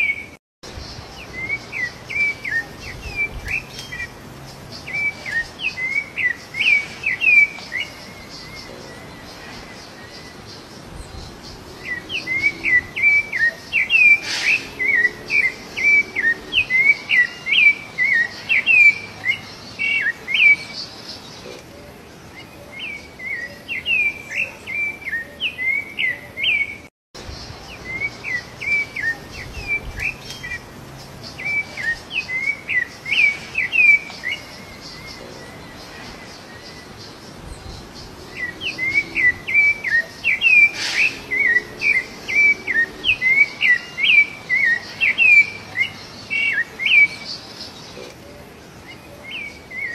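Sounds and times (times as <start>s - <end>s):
thrush singing whistled notes: 0.0s - 21.2s, 22.5s - 48.0s.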